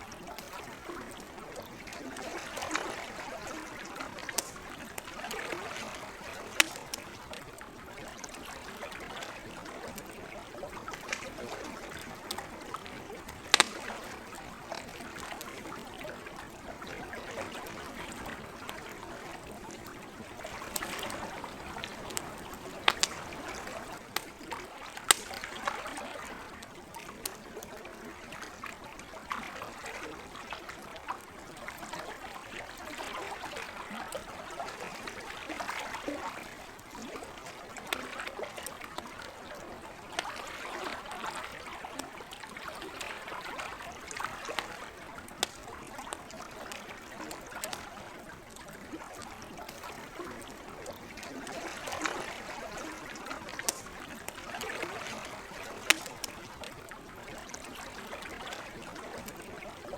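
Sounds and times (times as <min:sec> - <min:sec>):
campfire crackling: 0:00.0 - 0:59.9
lake water lapping at shore: 0:00.0 - 0:59.9.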